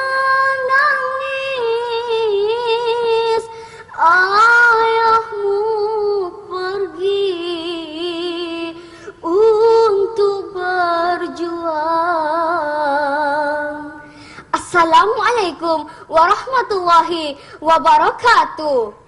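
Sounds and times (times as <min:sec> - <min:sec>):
girl singing slow melody: 0:00.0 - 0:19.0.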